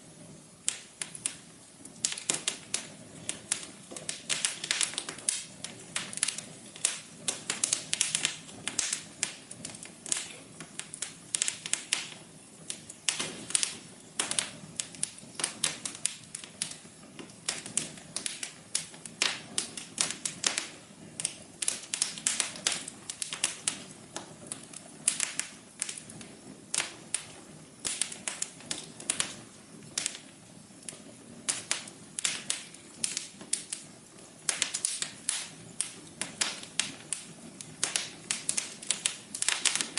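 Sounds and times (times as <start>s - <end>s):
fire popping and snapping: 0.0s - 39.9s
low rush of flames: 0.0s - 39.9s.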